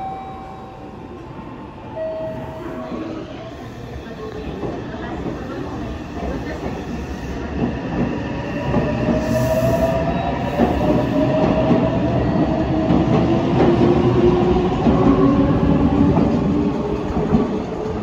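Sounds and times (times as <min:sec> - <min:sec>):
train wheels rumbling and clattering: 0:03.0 - 0:18.0.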